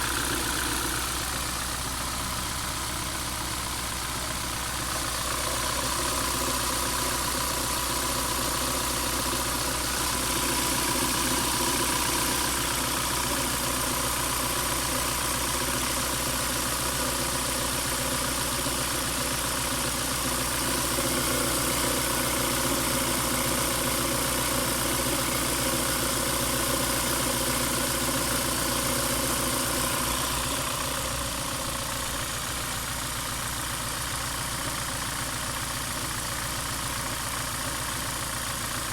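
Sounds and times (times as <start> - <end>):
engine idling roughly: 0.0 - 38.9.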